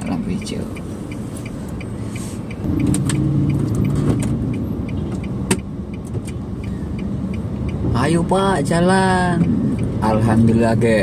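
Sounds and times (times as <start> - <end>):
car engine hum: 0.0 - 11.0
light regular ticking: 0.0 - 11.0.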